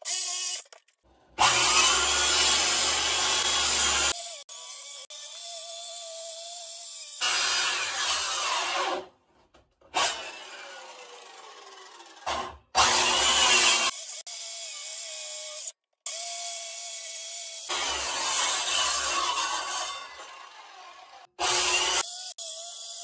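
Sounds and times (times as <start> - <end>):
power saw cutting plywood: 0.0 - 9.2, 9.8 - 15.8, 16.4 - 23.0.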